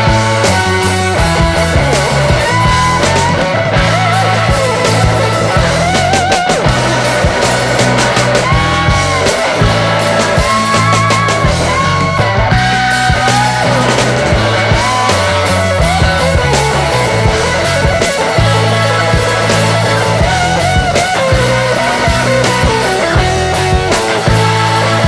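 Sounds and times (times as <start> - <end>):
rock music with electric guitar: 0.0 - 25.0.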